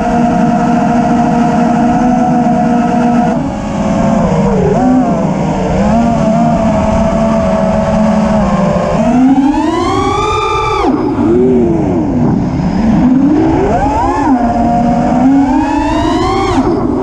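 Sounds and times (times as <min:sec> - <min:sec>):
drone motors whining: 0:00.0 - 0:17.0
wind rumble on microphone: 0:00.0 - 0:17.0.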